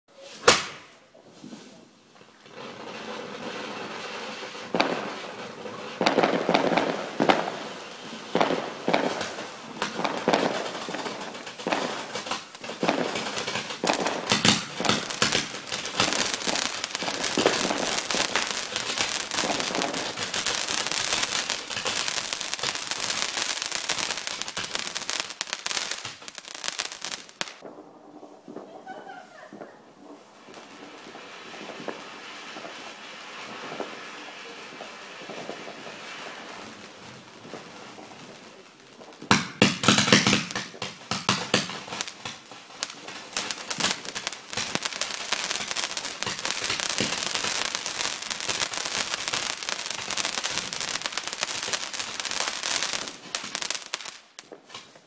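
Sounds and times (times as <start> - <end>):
hiss of firework sparks: 0.1 - 27.6, 30.2 - 55.0
firework bangs and crackling: 0.1 - 55.0.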